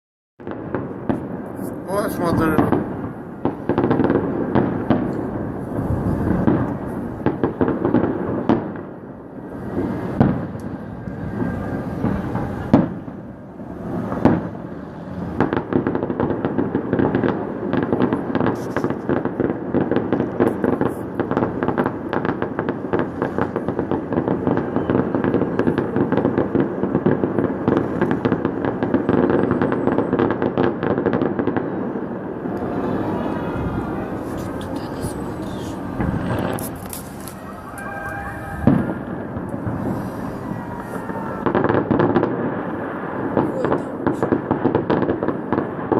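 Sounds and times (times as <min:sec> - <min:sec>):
firework crackle of rapid pops: 0:00.4 - 0:45.9
firework shell bursts booming: 0:00.4 - 0:45.9.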